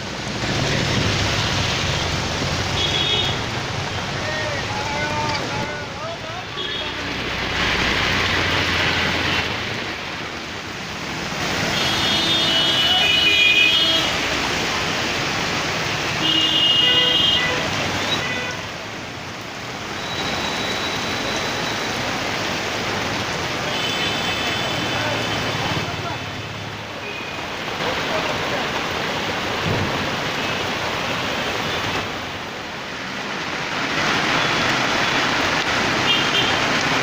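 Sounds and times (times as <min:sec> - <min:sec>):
rain hiss: 0:00.0 - 0:37.0
street traffic: 0:00.0 - 0:37.0.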